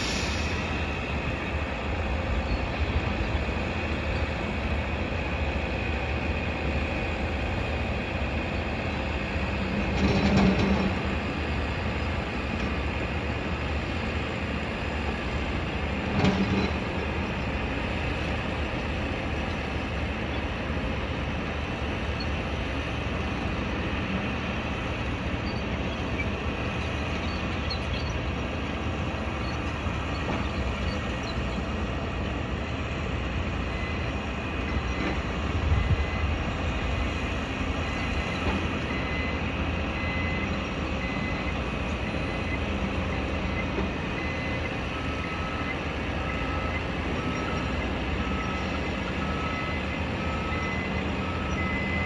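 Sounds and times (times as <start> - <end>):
construction site and city rumble: 0.0 - 52.0.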